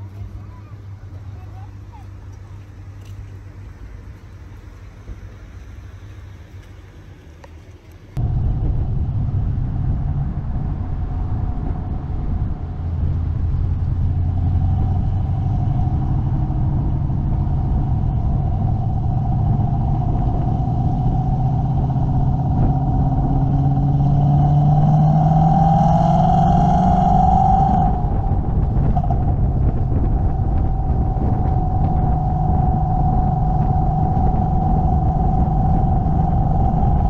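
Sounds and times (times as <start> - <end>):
car engine running: 0.0 - 37.0
road noise: 0.0 - 37.0.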